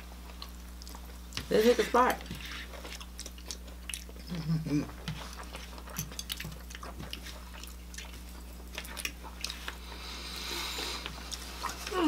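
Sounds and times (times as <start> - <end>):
chewing and mouth clicks: 0.0 - 1.5, 2.2 - 10.0, 10.9 - 12.0
low steady hum: 0.0 - 12.0.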